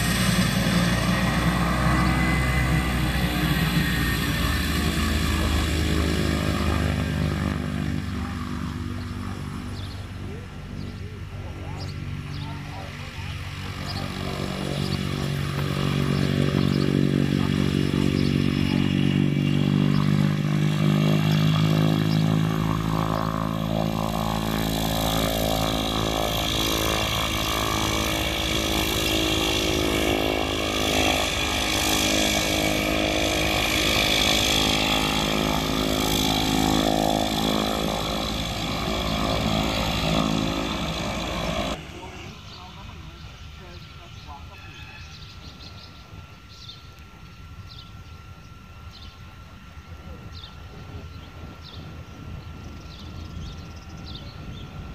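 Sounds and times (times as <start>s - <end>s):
high turbine whine: 0.0s - 54.9s
turboprop engine drone: 0.0s - 54.9s.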